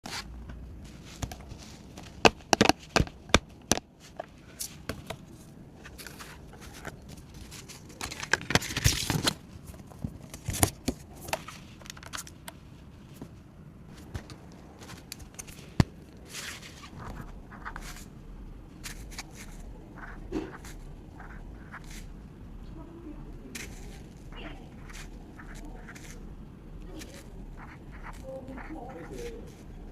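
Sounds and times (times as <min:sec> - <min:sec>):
paper rustling: 0:00.1 - 0:22.2, 0:23.3 - 0:29.9.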